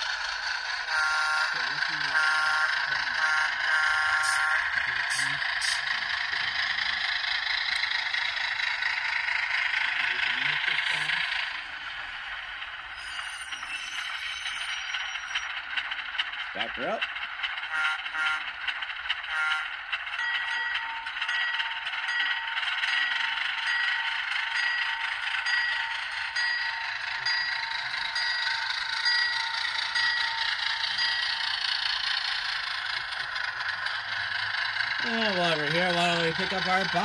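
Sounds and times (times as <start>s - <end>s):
model diesel engine running: 0.0s - 13.0s, 15.0s - 37.0s
locomotive bell ringing: 0.0s - 37.0s.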